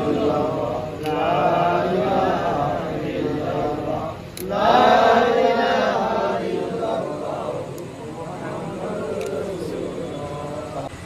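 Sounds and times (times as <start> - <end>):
man chanting a prayer: 0.0 - 11.0.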